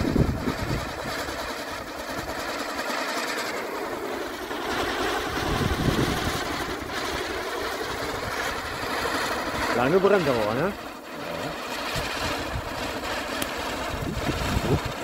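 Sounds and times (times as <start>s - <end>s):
firework wheel rattling hiss: 0.0s - 15.0s.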